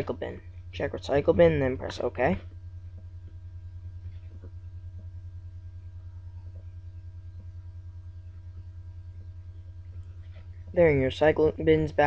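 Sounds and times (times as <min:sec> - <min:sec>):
low pulsing hum: 0:00.0 - 0:12.0.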